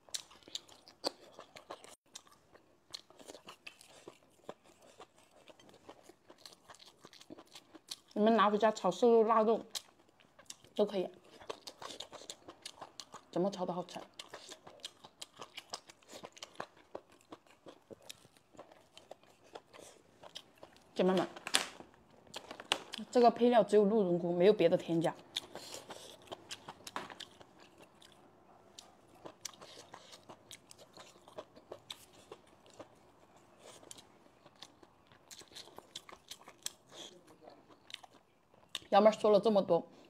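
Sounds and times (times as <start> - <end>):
person chewing crunchy food: 0.0 - 8.2, 9.7 - 23.1, 25.2 - 38.9.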